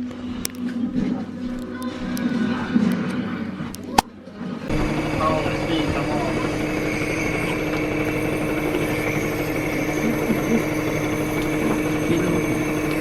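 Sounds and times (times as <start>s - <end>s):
mechanical hum of air pulse vest: 0.0s - 13.0s.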